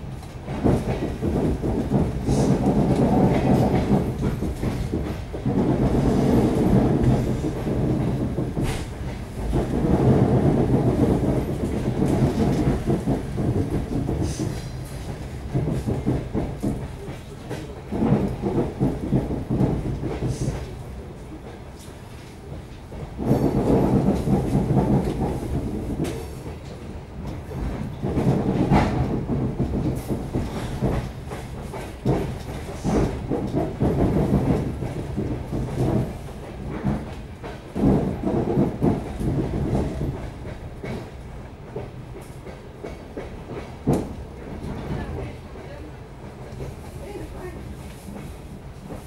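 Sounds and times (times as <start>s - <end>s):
train running rumble: 0.0s - 49.0s
train wheel clatter: 0.0s - 49.0s.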